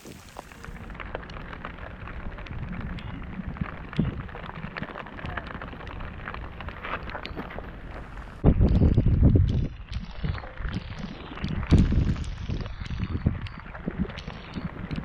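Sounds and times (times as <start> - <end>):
rain pattering: 0.0 - 15.0
wind buffeting microphone: 0.0 - 15.0.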